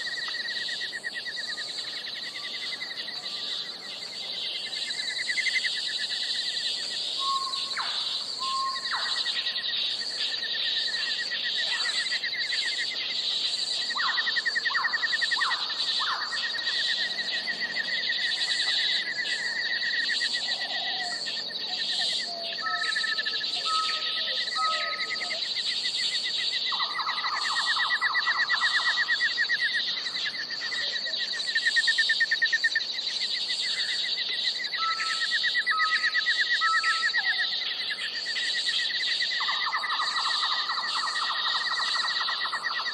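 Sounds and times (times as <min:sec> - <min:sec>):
high buzz of animal calls: 0:00.0 - 0:42.9.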